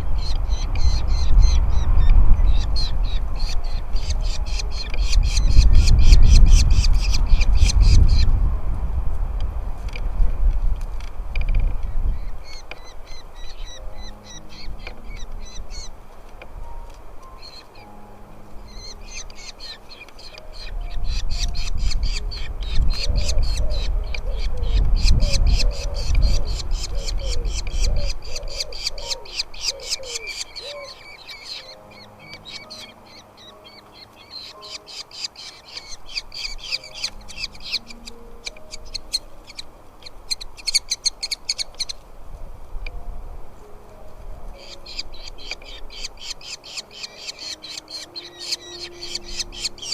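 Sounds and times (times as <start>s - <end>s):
nestling birds chirping: 0.0s - 8.6s, 9.5s - 43.0s, 43.6s - 49.9s.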